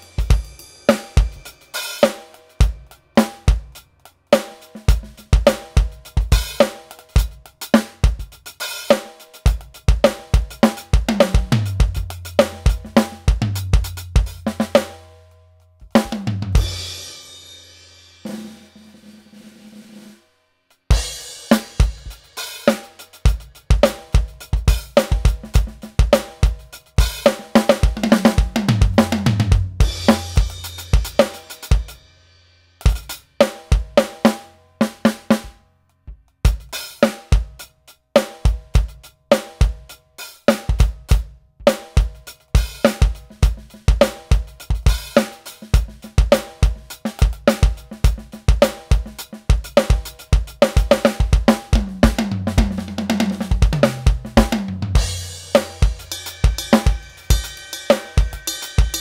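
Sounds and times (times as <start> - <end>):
electronic drum kit groove: 0.0 - 15.1, 15.8 - 18.4, 20.8 - 32.1, 32.8 - 59.0.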